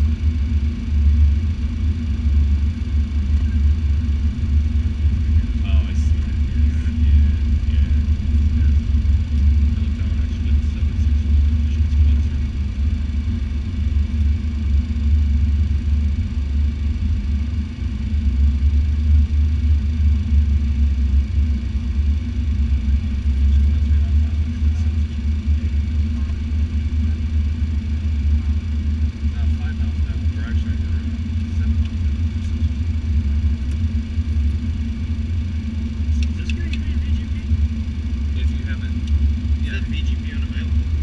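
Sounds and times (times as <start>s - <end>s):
low rumble of airflow and jet engines: 0.0s - 41.0s
steady hum: 0.0s - 41.0s.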